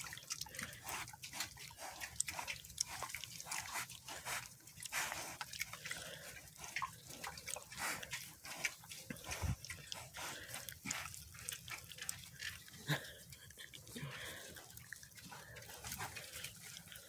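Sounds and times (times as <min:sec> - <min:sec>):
pigs chewing celery: 0:00.0 - 0:17.0.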